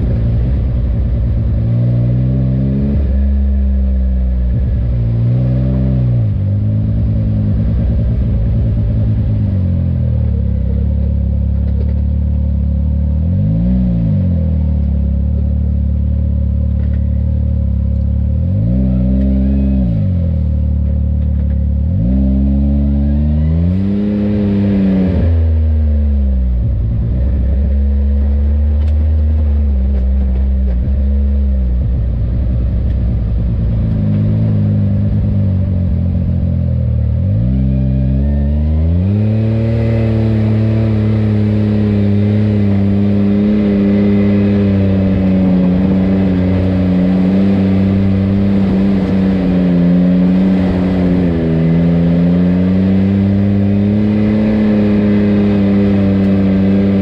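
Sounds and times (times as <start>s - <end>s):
utility vehicle engine revving: 0.0s - 57.0s.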